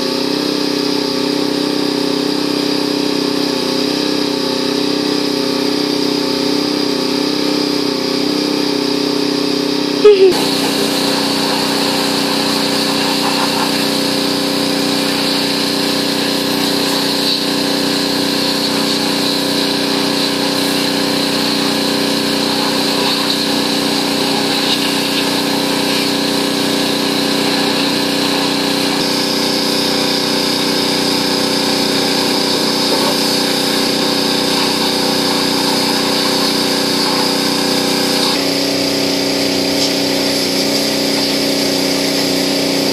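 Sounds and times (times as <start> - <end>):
pressure washer engine and pump whine: 0.0 - 42.9.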